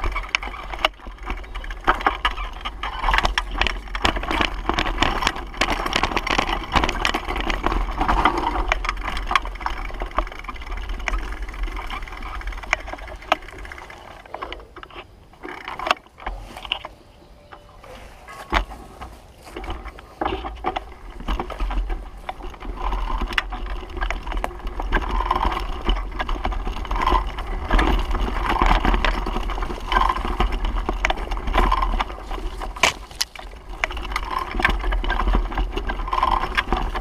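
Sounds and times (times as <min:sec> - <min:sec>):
bicycle rattling and clattering: 0:00.0 - 0:37.0.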